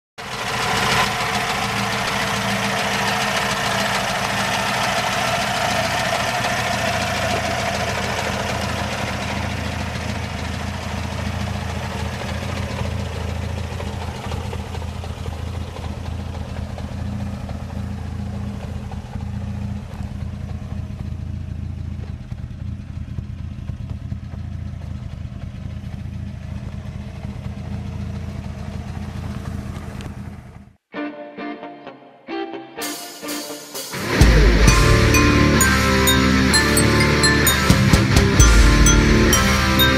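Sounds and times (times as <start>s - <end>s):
car engine idling: 0.2s - 30.9s, 34.0s - 39.9s.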